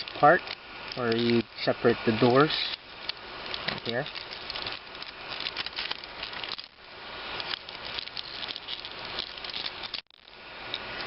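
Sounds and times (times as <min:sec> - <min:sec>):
plastic parts clicking and rattling: 0:00.0 - 0:01.6, 0:02.2 - 0:06.8, 0:07.4 - 0:11.0
steady hiss: 0:00.0 - 0:11.0.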